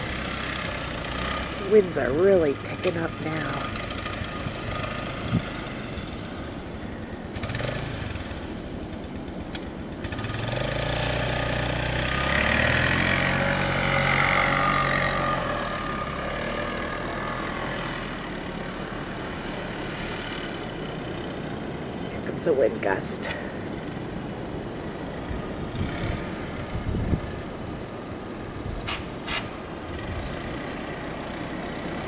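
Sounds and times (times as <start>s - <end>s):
blizzard wind blowing: 0.0s - 32.0s
vehicle engine passing by: 0.0s - 32.0s.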